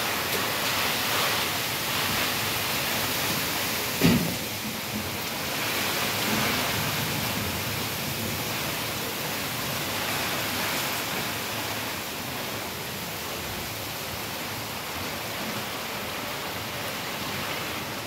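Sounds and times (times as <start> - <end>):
heavy rain on paving and foliage: 0.0 - 18.0.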